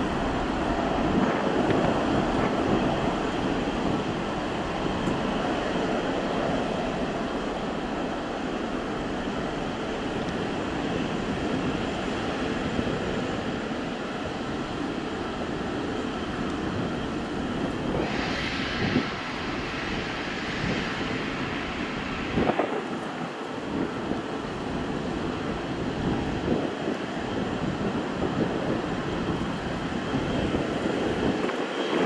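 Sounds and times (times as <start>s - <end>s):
distant jet engine rumble: 0.0s - 32.0s
jet engine hiss: 0.0s - 32.0s.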